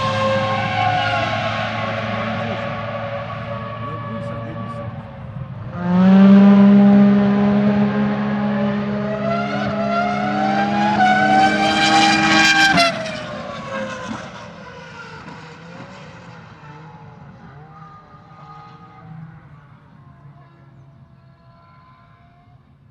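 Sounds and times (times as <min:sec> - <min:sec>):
racing car engine running hard: 0:00.0 - 0:21.2.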